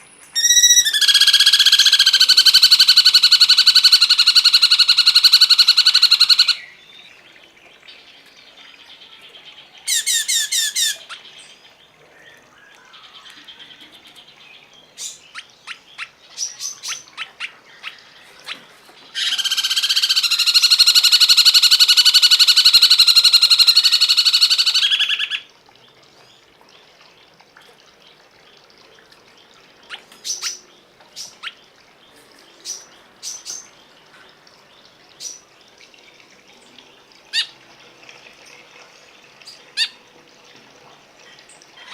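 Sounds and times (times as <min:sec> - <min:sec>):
songbird chirping: 0:00.0 - 0:37.6.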